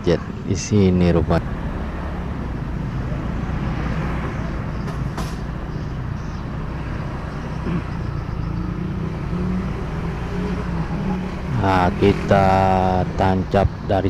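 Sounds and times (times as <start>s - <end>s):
surrounding traffic noise: 0.0s - 14.0s
vehicle engine running low: 0.0s - 14.0s.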